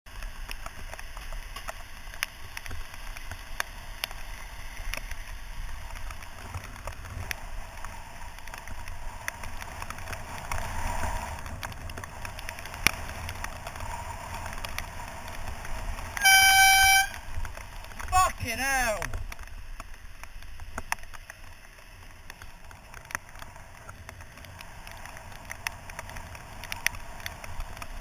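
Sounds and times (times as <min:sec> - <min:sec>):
tyres hissing on wet road: 0:00.1 - 0:28.0
wind rumble: 0:00.2 - 0:28.0.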